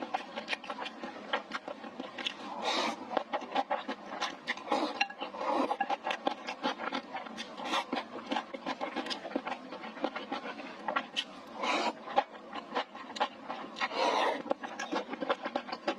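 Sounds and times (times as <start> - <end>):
chewing and crunching food: 0.0 - 15.9.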